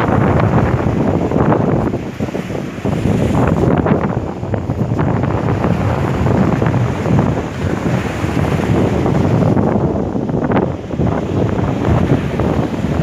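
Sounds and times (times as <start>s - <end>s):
surf breaking: 0.0s - 13.0s
wind buffeting microphone: 0.0s - 13.0s.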